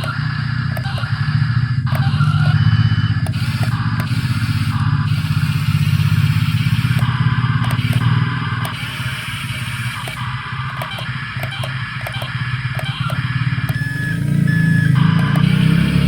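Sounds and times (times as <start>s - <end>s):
toy excavator motors whirring: 0.0s - 16.0s.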